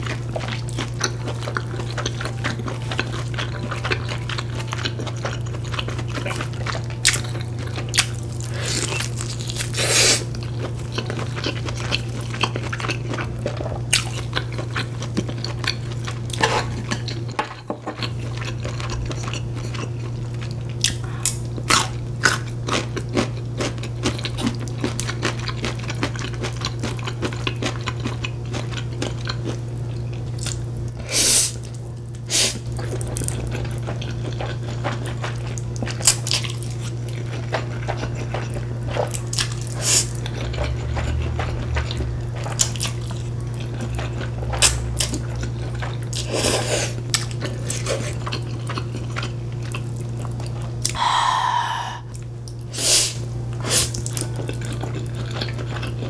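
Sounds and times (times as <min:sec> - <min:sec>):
close chewing with mouth clicks: 0:00.0 - 0:31.8, 0:32.5 - 0:51.0, 0:52.1 - 0:56.0
steady low hum: 0:00.0 - 0:56.0.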